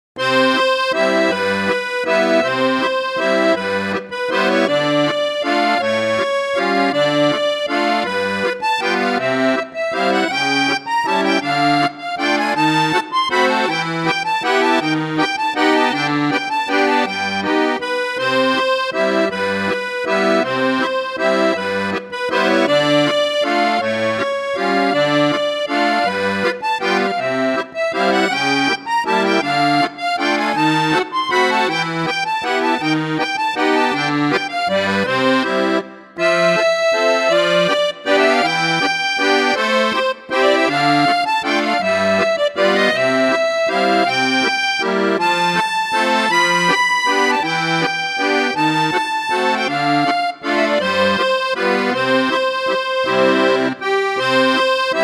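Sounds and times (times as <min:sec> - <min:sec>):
instrumental background music: 0:00.2 - 0:55.0.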